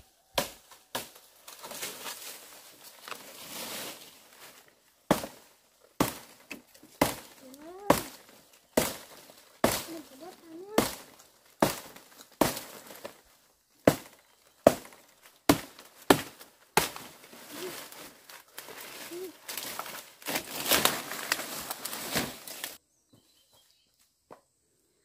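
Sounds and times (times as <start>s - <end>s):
dry leaves and brush crackling: 0.0s - 22.8s
blade chopping branches: 0.3s - 22.8s.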